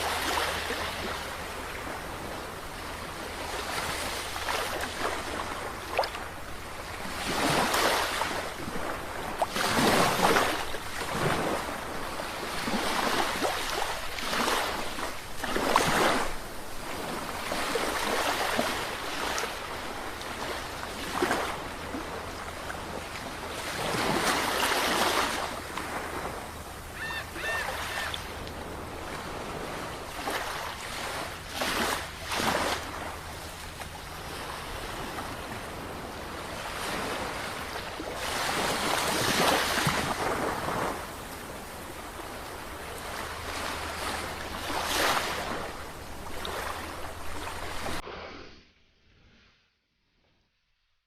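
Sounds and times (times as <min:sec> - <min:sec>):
sea waves washing ashore: 0:00.0 - 0:48.4.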